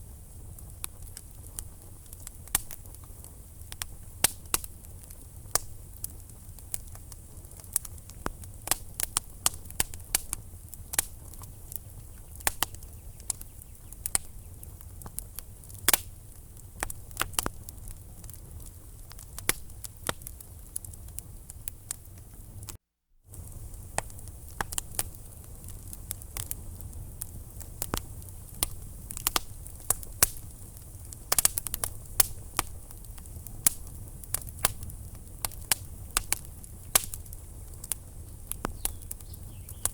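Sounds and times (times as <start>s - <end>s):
burning logs popping and snapping: 0.0s - 39.9s
low rumble of flame: 0.0s - 39.9s.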